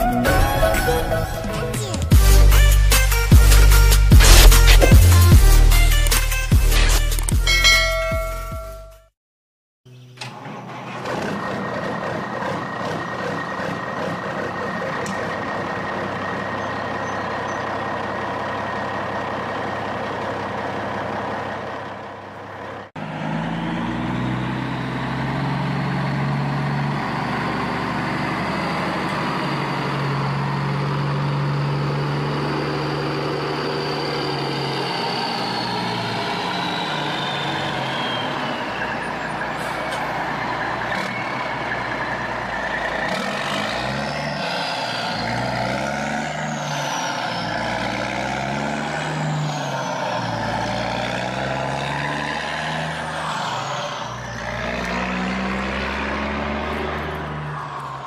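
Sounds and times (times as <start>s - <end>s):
heavy truck engine running: 0.0s - 9.0s, 10.2s - 58.0s.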